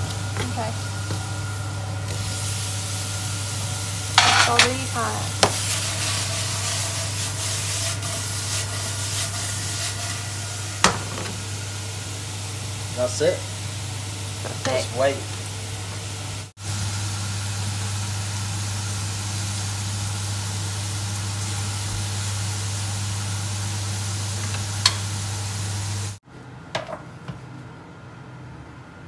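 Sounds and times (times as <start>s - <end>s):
fruit sizzling in a frying pan: 0.0s - 26.2s.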